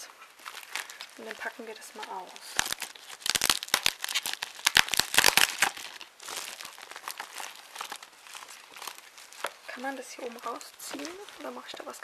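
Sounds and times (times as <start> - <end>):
parcel wrapping crinkling: 0.0 - 12.0.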